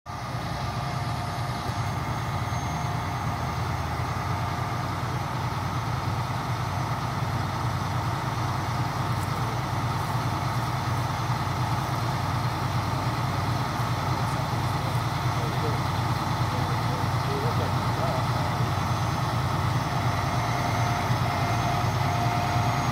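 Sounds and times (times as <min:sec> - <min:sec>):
diesel engine running: 0:00.1 - 0:22.9
faint steady whine: 0:00.2 - 0:22.9.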